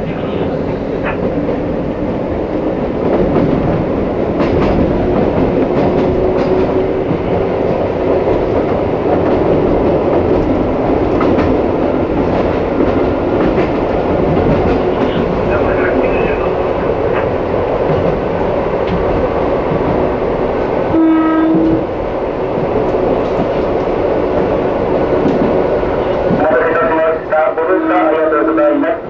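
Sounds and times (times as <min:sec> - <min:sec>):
train motors and wheels rumbling: 0:00.0 - 0:29.0.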